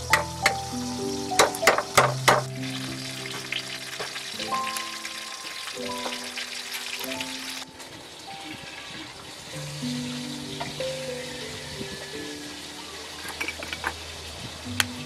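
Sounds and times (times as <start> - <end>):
background music with held notes: 0.0 - 15.0
rough crackly hiss: 0.0 - 15.0.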